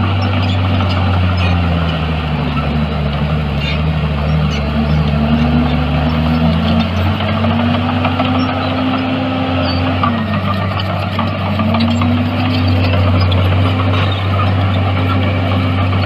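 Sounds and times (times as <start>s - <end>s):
heavy diesel engines humming: 0.0s - 16.0s.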